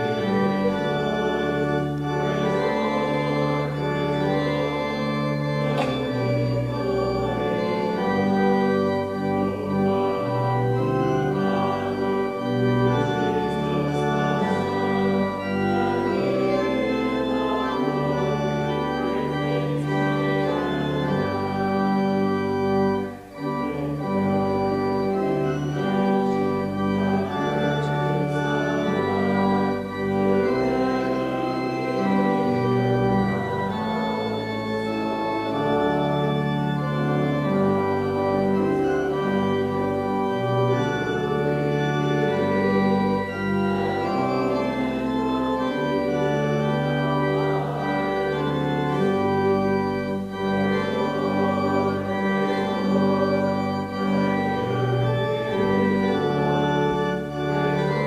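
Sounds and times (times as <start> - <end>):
church organ playing a hymn: 0.0 - 58.0.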